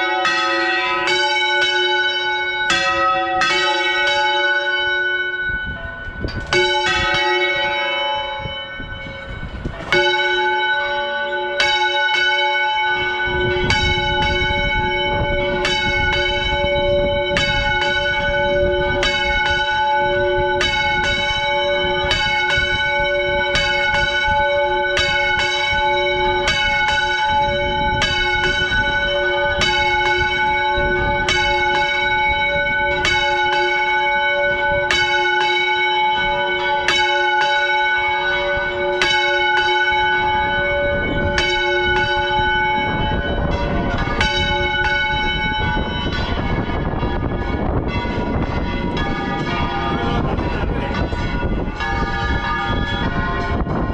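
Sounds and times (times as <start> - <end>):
church bell ringing: 0.0 - 53.9.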